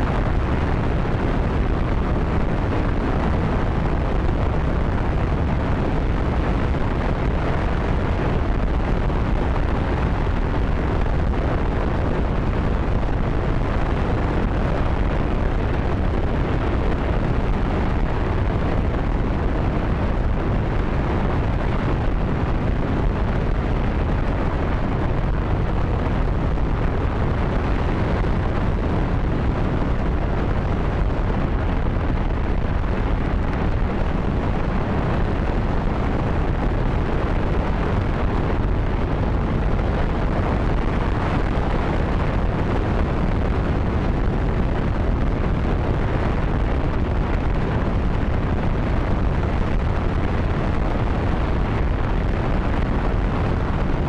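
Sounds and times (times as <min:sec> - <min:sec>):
rocket engine roaring: 0:00.0 - 0:54.0.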